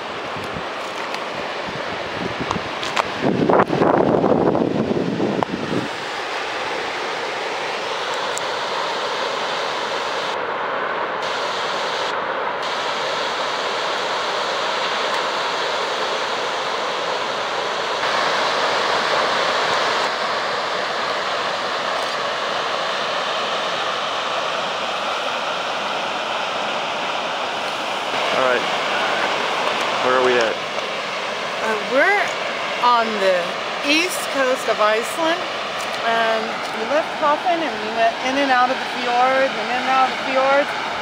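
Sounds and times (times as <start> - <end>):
waterfall and stream rushing: 0.0 - 41.0.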